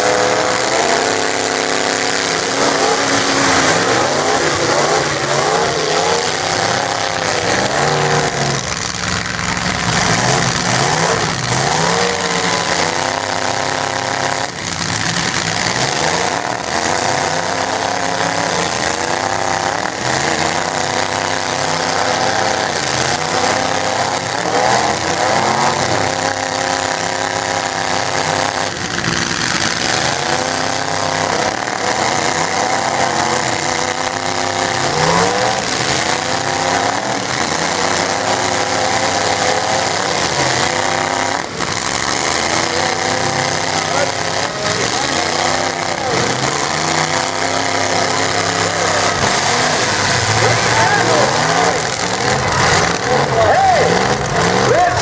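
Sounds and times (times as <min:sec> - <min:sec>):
truck engines revving hard: 0:00.0 - 0:55.0.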